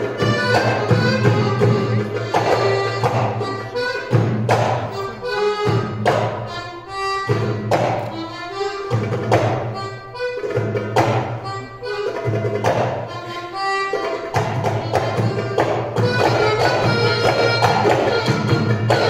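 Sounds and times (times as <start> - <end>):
accordion melody: 0.0 - 19.0
hand drum strokes: 0.0 - 19.0.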